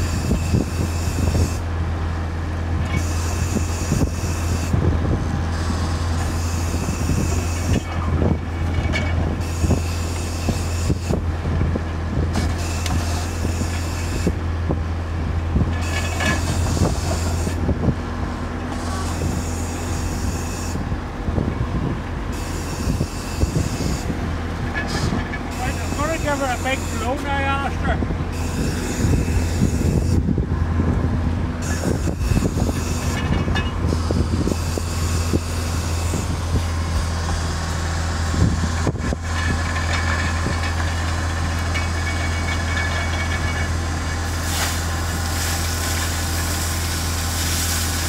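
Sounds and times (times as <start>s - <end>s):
compressor engine droning: 0.0s - 48.0s.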